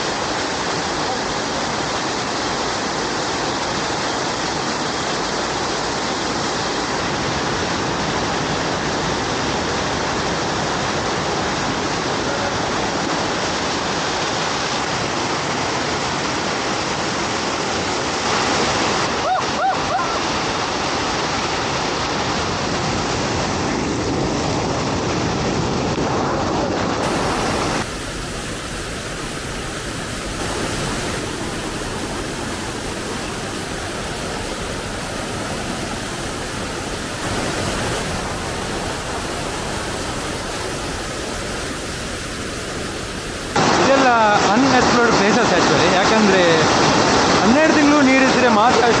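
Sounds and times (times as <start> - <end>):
waterfall rushing over rocks: 0.0 - 23.8, 25.4 - 49.0.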